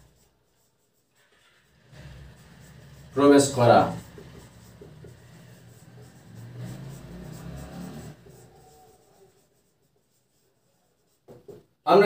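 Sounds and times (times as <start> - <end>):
marker pen writing on whiteboard: 0.0 - 11.7.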